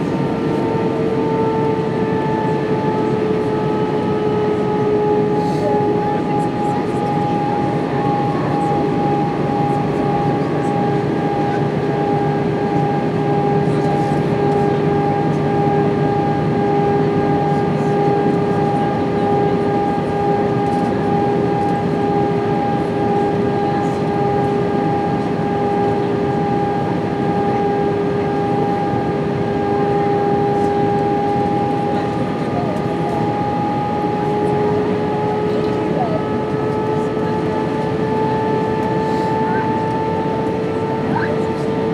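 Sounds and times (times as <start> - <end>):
jet engines humming: 0.0 - 41.9.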